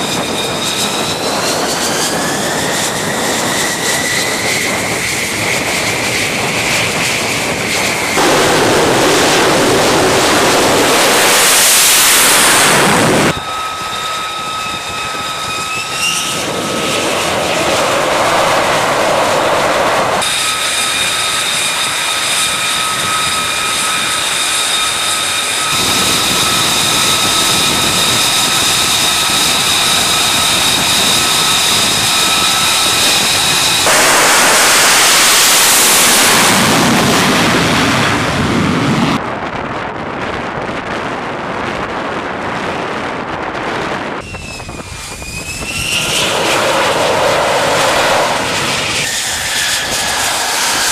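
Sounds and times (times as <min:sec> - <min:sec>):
high whine of jet engine: 0:00.0 - 0:50.9
jet engine roar: 0:00.0 - 0:50.9.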